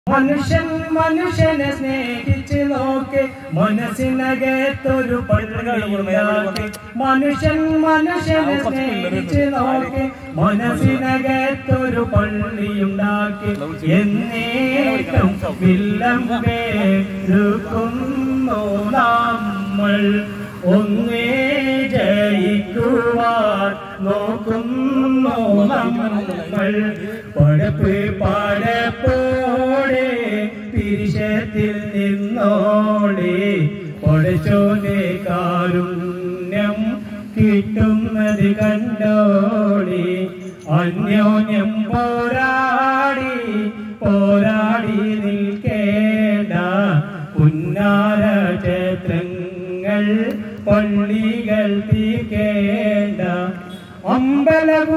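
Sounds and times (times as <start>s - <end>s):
man singing into a microphone: 0.0s - 54.9s.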